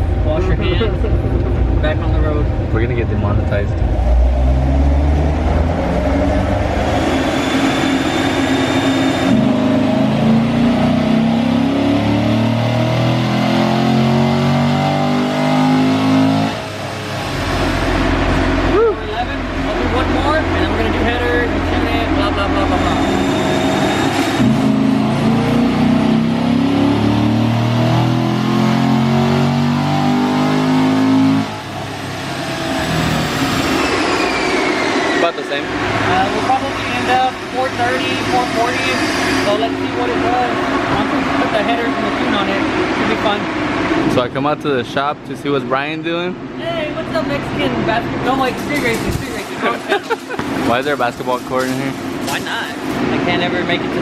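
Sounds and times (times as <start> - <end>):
car engine accelerating: 0.0 - 44.6.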